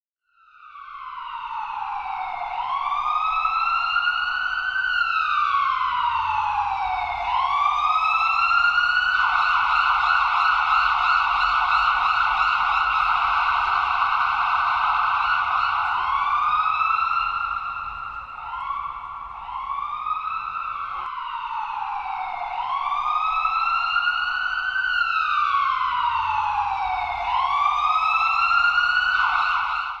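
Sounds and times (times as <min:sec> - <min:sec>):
ambulance siren wailing: 0:00.4 - 0:30.0.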